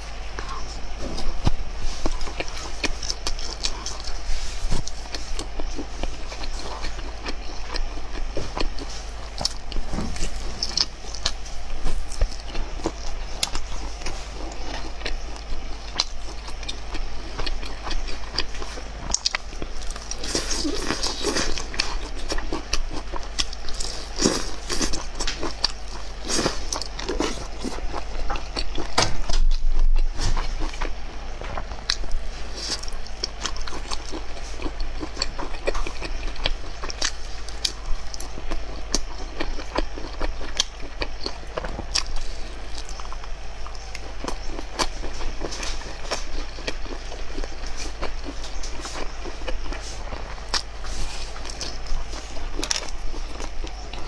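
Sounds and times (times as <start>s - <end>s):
biting and chewing food: 0.0s - 54.0s.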